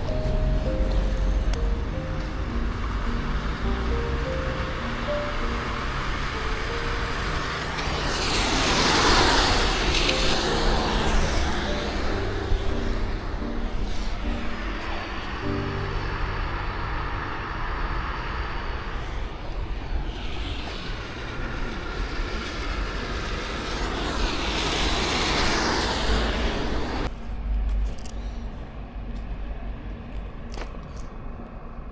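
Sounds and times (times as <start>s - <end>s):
street background: 0.0s - 31.9s
vehicle passing with rushing noise: 0.0s - 31.9s.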